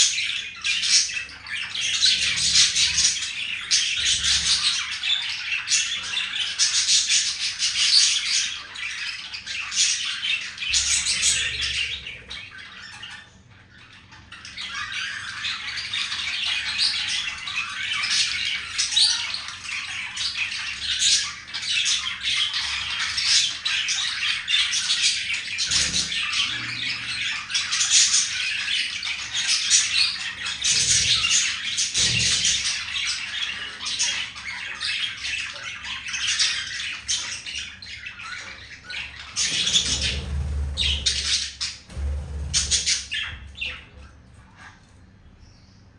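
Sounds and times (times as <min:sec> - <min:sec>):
budgerigars chattering and warbling: 0:00.0 - 0:45.9.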